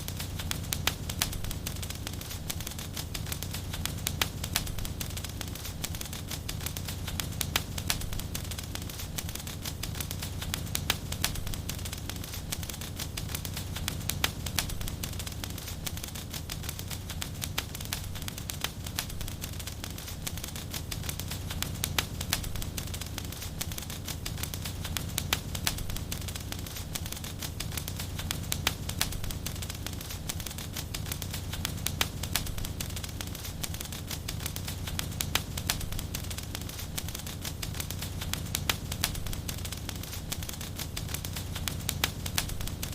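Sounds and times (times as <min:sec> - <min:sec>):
fire low rumble: 0:00.0 - 0:42.9
wood fire crackling: 0:00.0 - 0:42.9.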